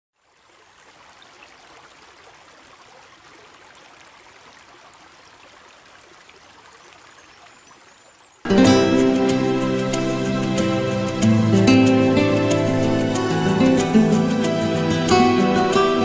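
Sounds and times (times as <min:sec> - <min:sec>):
river water flowing: 0:00.2 - 0:16.0.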